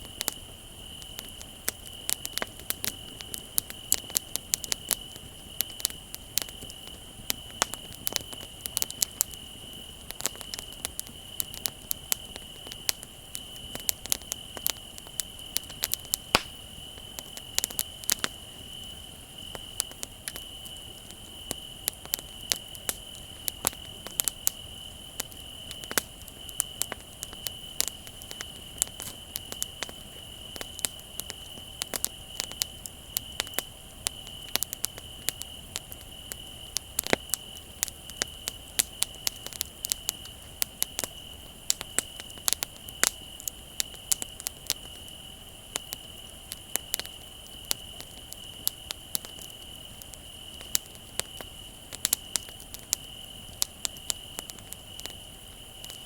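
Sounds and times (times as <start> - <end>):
crickets trilling: 0.0 - 56.0
wood fire crackling and popping: 0.0 - 56.0.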